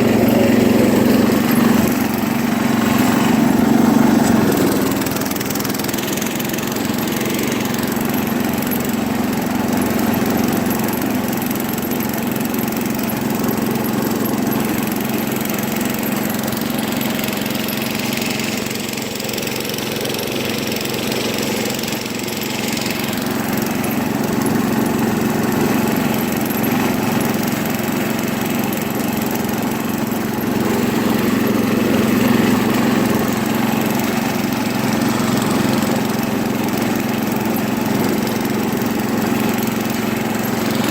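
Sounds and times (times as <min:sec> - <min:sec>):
garden tractor engine droning: 0:00.0 - 0:40.9.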